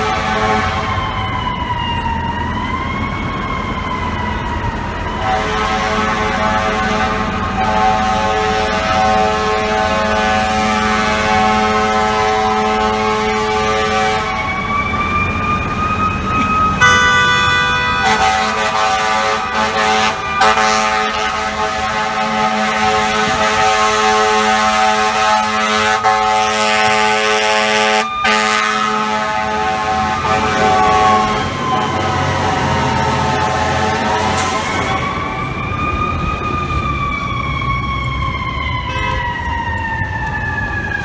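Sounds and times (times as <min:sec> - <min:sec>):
fire truck air horn blaring: 0:00.0 - 0:37.8, 0:38.7 - 0:41.0
city traffic rumble: 0:00.0 - 0:41.0
wailing siren: 0:00.0 - 0:41.0.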